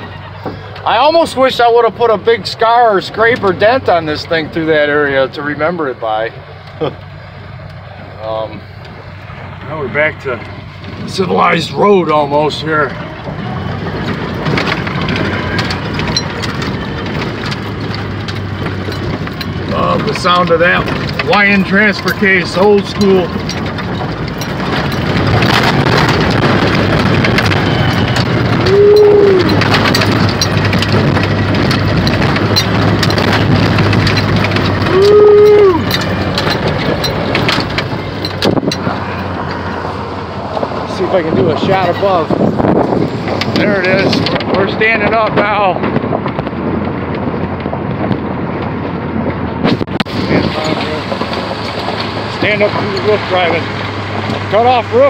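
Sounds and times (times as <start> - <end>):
gear whine: 0.0 - 55.0
tyres crunching over rough trail: 0.0 - 55.0
vehicle engine and drivetrain: 0.0 - 55.0.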